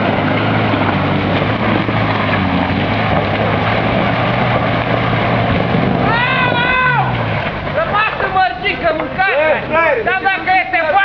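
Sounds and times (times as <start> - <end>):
dense rushing noise: 0.0 - 10.8
off-road vehicle engine running: 0.0 - 11.0.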